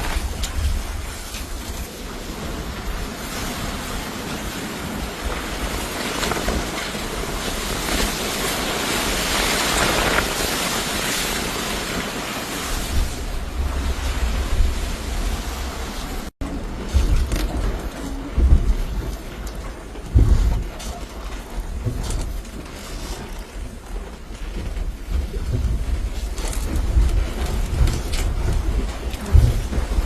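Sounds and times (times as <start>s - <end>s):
rushing floodwater: 0.0s - 30.0s
wind: 0.0s - 30.0s
wind buffeting microphone: 0.0s - 30.0s.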